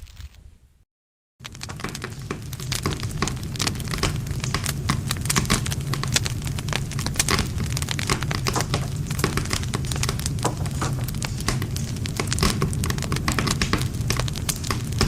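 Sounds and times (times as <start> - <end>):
campfire crackling and popping: 1.4 - 15.0.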